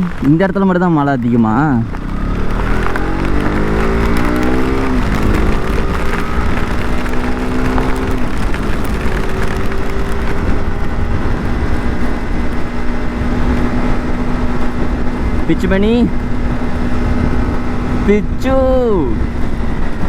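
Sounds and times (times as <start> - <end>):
loud steady rushing noise: 0.0 - 20.0
motorcycle engine running: 0.0 - 20.0.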